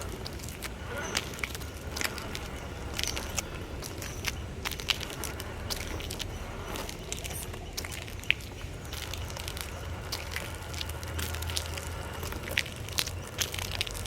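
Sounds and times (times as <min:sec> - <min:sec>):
rc car motor hum: 0:00.0 - 0:14.0
tyres crunching over loose ground: 0:00.0 - 0:14.0.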